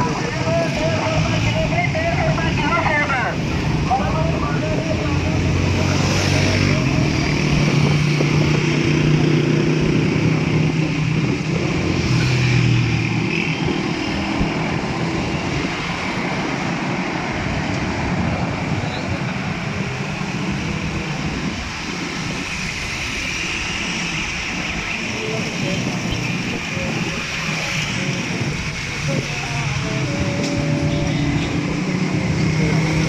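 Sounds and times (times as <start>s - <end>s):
rushing road noise: 0.0s - 33.0s
wind noise on microphone: 2.2s - 23.4s, 24.2s - 33.0s.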